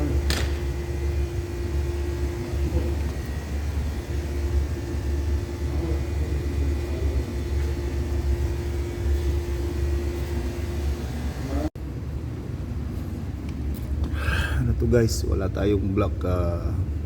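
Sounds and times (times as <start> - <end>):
mechanical hum and rumble: 0.0 - 17.0.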